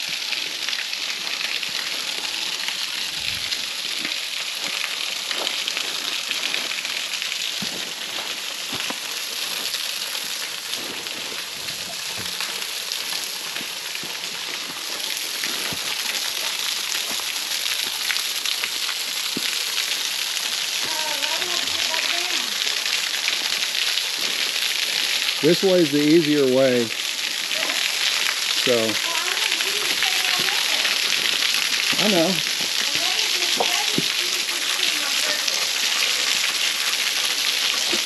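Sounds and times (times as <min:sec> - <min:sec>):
waterfall splashing: 0:00.0 - 0:38.0.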